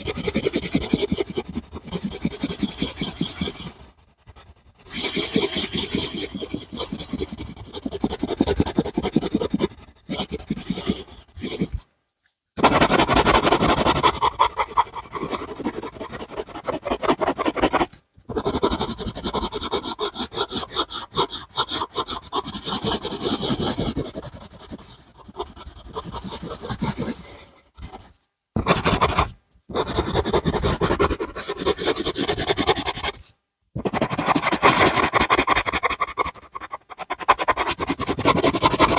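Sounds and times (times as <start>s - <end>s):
drawing tool scribbling on paper: 0.0s - 11.8s, 12.6s - 38.9s.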